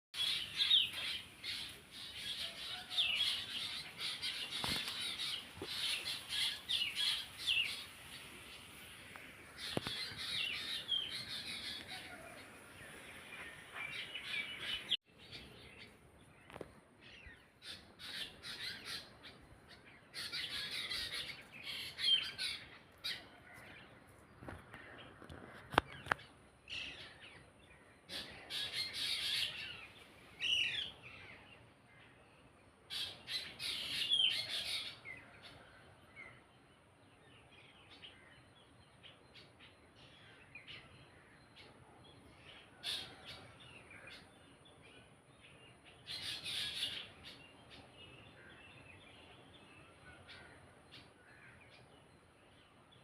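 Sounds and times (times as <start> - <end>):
birds twittering: 0.2 - 53.0.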